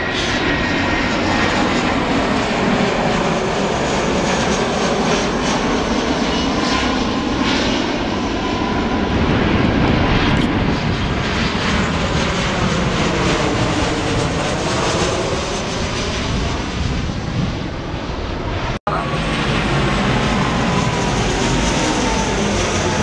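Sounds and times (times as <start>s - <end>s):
jet engines overhead: 0.0s - 23.0s.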